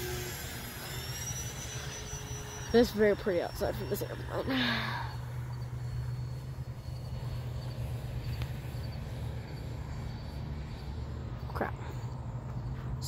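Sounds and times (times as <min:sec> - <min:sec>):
model airplane motor droning: 0:00.0 - 0:13.0.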